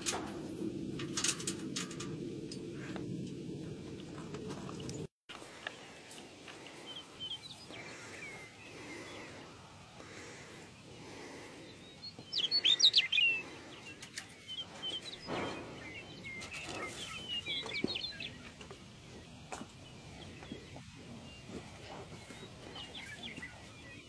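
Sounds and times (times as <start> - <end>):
songbird chirping: 4.1 - 24.0.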